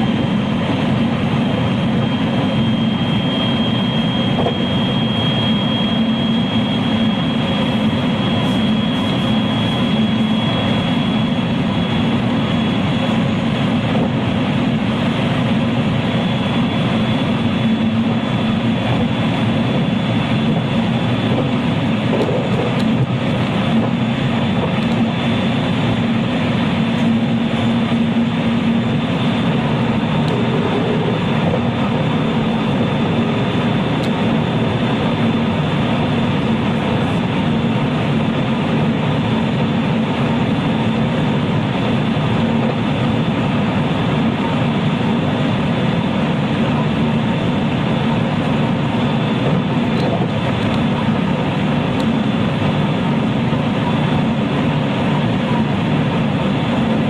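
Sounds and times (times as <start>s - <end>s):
thin high whine: 0.0s - 57.0s
train wheels rumbling on rail: 0.0s - 57.0s.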